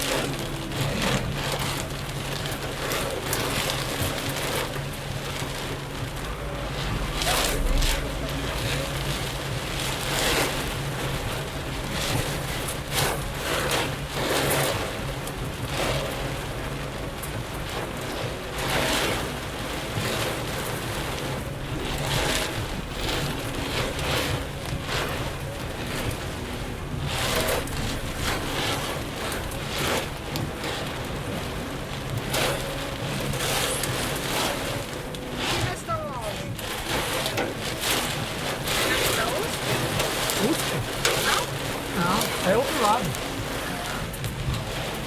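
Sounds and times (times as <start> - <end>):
heavy rain: 0.0 - 45.0
vehicle road noise on wet road: 0.0 - 45.0.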